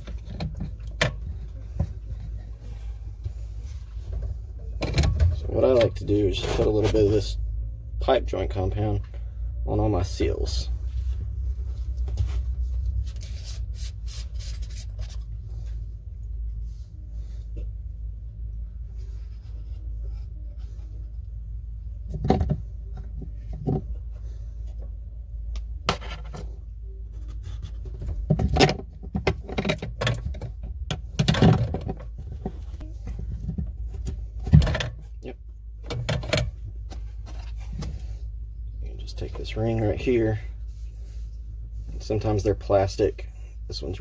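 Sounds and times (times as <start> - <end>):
low hum: 0.0 - 44.0.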